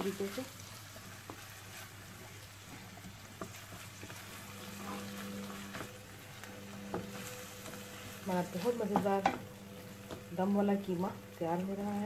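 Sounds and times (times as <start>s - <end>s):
meat sizzling in oil: 0.0s - 12.0s
wooden spatula scraping a pan: 0.0s - 12.0s.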